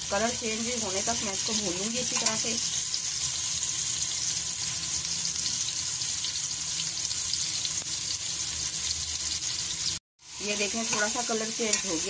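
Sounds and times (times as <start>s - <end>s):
chicken sizzling in butter: 0.0s - 12.0s.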